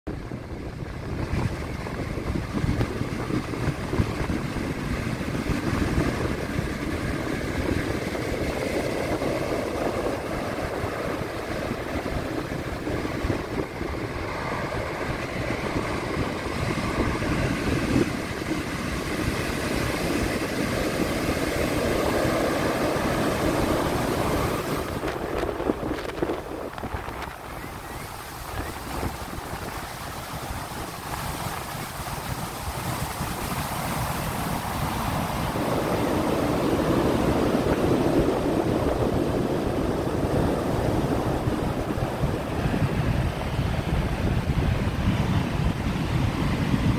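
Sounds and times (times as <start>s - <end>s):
heavy waves breaking on beach: 0.1s - 46.9s.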